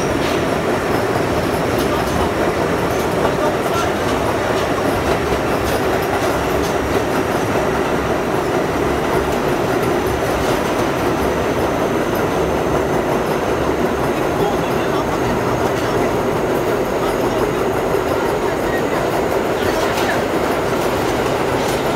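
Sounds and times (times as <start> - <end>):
subway train wheels and motors roaring: 0.0 - 21.9
wheels clicking over rail joints: 0.0 - 21.9.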